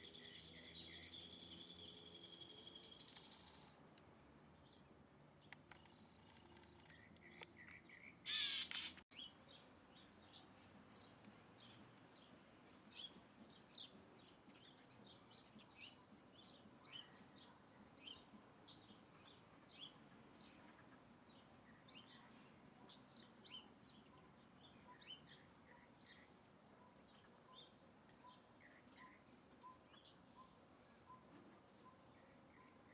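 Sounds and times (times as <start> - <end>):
birds chirping: 4.6 - 32.9.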